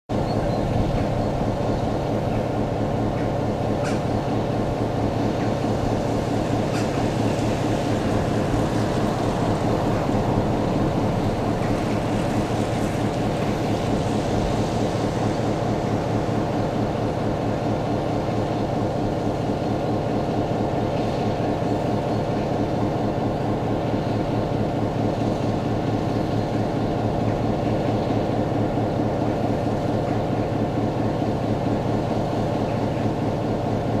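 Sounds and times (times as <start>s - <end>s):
diesel locomotive idling: 0.1s - 34.0s.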